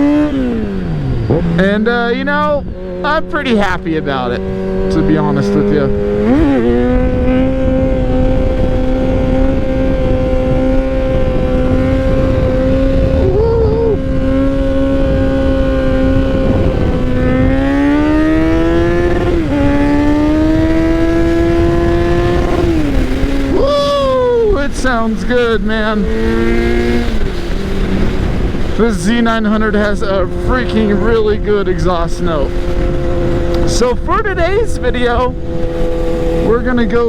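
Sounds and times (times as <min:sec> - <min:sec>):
motorcycle engine revving loudly: 0:00.0 - 0:37.0.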